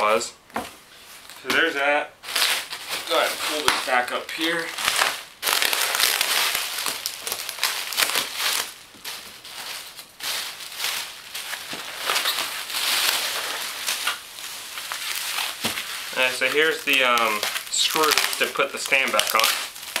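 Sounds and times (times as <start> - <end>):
plastic packing material crinkling: 0.9 - 20.0.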